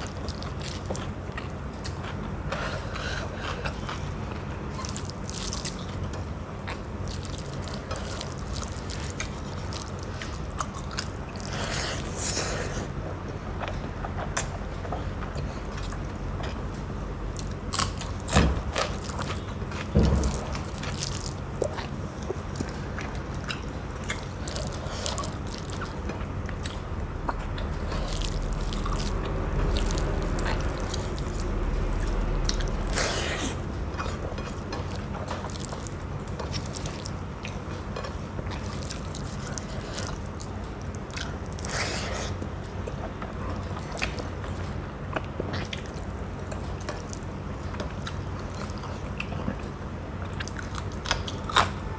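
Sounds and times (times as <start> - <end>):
chewing and wet smacks: 0.0 - 51.9
steady low hum: 0.0 - 51.9.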